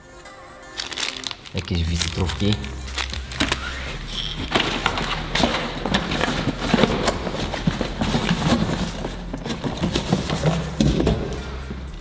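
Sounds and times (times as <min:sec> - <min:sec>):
cardboard box rustling: 0:00.8 - 0:11.4.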